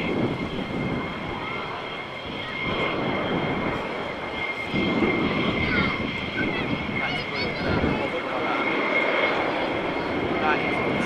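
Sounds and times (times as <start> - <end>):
high turbine whine: 0.0 - 11.0
propeller aircraft droning overhead: 0.0 - 11.0.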